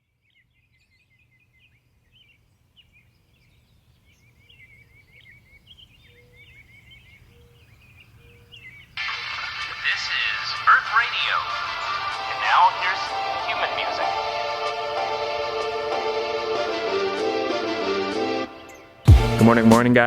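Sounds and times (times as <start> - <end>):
birds chirping and trilling: 0.0 - 17.2.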